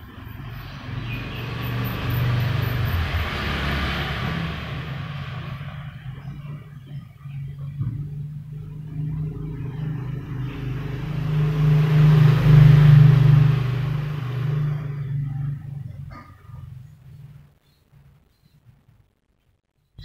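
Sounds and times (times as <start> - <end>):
vehicle passing by: 0.0 - 17.5.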